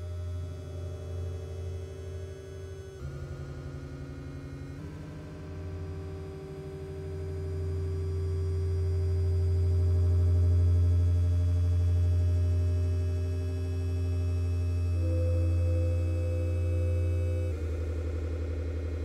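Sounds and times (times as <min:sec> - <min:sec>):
low synthesizer drone: 0:00.0 - 0:19.0.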